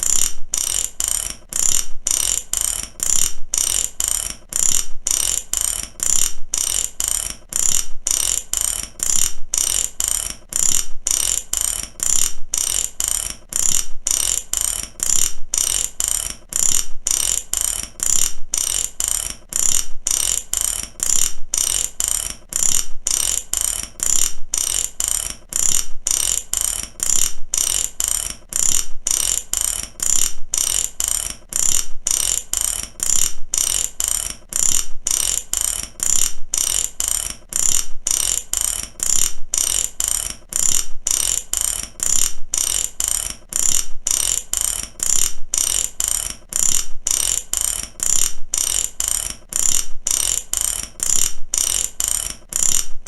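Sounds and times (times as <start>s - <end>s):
ratchet wrench clicking: 0.0s - 53.0s.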